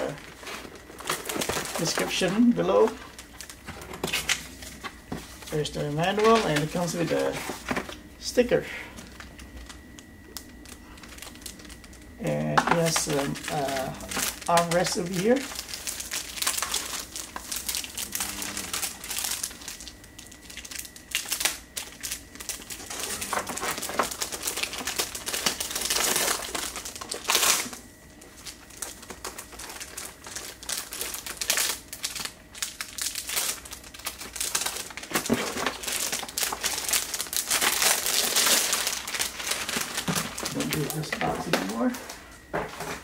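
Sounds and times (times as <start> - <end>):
packaging crinkling and rustling: 0.0 - 8.1, 8.9 - 43.0.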